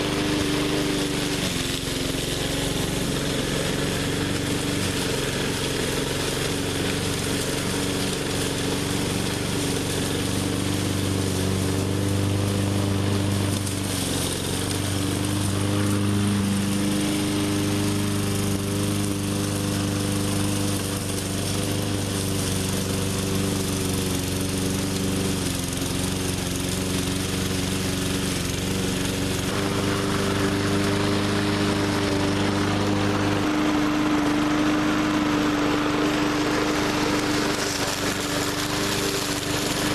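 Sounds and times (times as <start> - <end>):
push mower engine running: 0.0 - 39.9.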